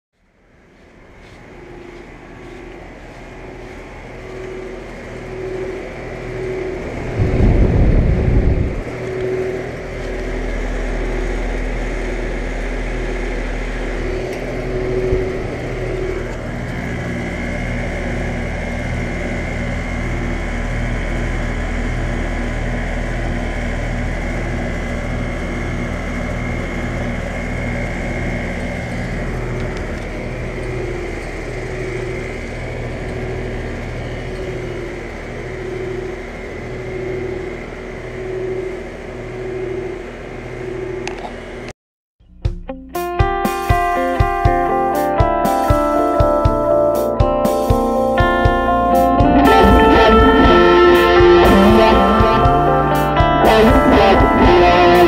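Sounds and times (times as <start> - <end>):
air conditioner unit humming: 0.2 - 41.7, 43.6 - 55.0
loud low rumble: 3.2 - 41.3, 48.3 - 55.0.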